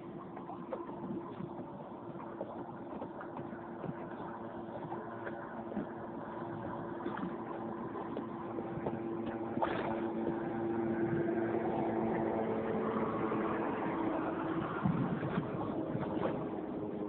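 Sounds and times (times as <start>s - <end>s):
boat engine idling: 0.0s - 17.0s
water lapping: 0.0s - 17.0s.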